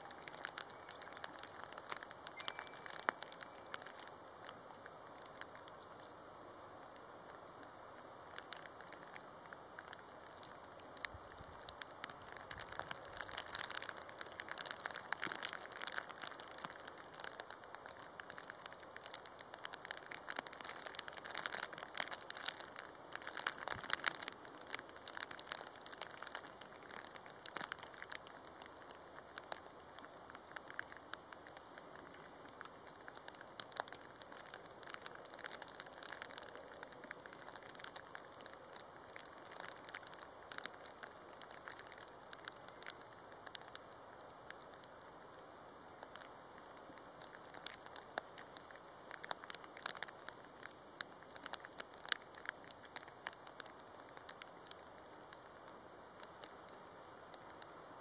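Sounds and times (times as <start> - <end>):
heavy rain falling: 0.0 - 5.8, 7.2 - 58.0.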